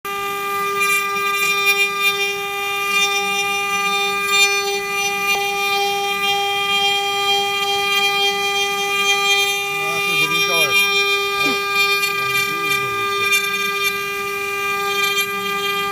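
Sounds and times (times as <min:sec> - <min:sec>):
router spindle high-pitched whine: 0:00.1 - 0:15.9
scratchy wood cutting noise: 0:00.3 - 0:15.9.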